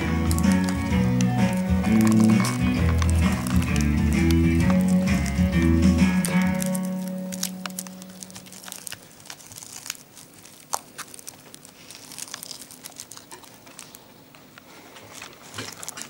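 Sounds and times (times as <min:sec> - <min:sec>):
plastic sheeting crinkling: 0:00.0 - 0:16.0.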